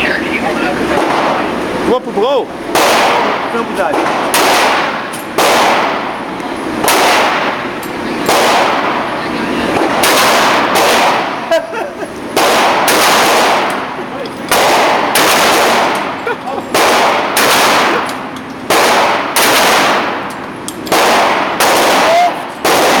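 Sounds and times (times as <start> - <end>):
echoing shotgun shots: 0.9 - 1.6, 2.7 - 9.1, 9.8 - 11.5, 12.3 - 23.0.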